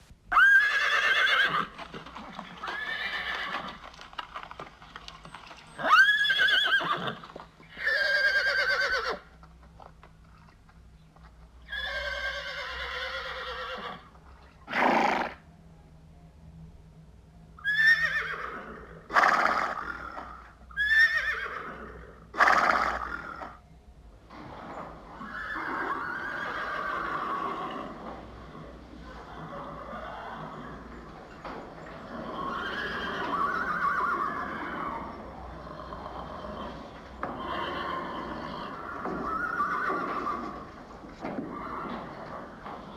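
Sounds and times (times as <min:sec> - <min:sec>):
horses neighing: 0:00.3 - 0:09.4, 0:11.7 - 0:14.1, 0:17.6 - 0:23.6, 0:24.3 - 0:42.9.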